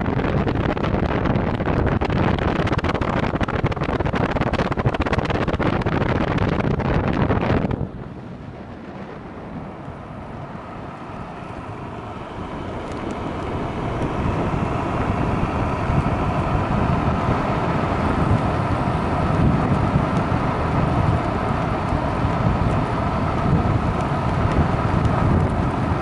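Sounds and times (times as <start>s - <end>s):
scooter tyres on asphalt: 0.0s - 26.0s
wind buffeting microphone: 0.0s - 26.0s.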